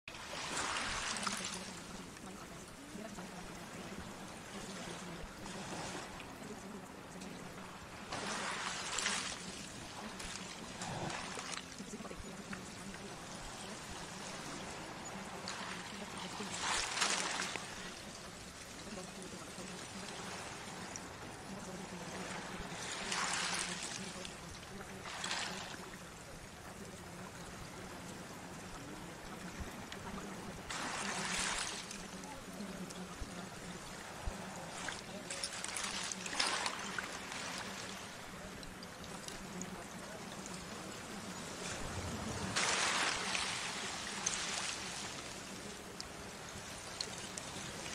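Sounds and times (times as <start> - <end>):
running water: 0.0 - 47.9
low steady hum: 0.1 - 47.9.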